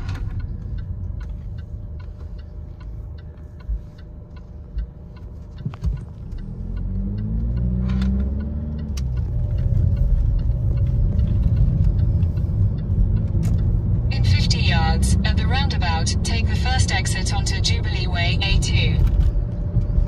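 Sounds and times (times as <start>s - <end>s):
car engine accelerating: 0.0s - 20.0s
road rumble: 0.0s - 20.0s
turn signal ticking: 0.0s - 20.0s.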